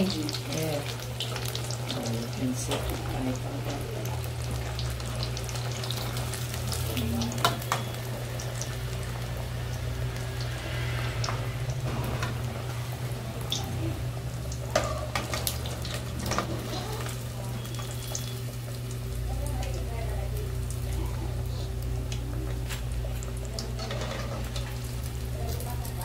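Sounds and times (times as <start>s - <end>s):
deep-frying sizzle and crackle: 0.0s - 26.0s.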